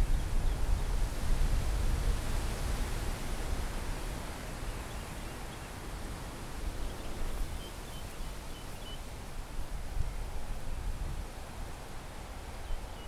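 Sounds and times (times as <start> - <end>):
steady noisy hiss: 0.0 - 13.0.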